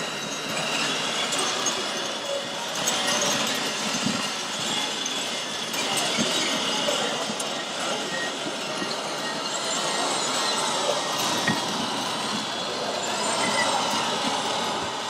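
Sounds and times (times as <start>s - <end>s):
exhibition hall crowd noise: 0.0s - 15.0s
model construction machines running: 0.0s - 15.0s.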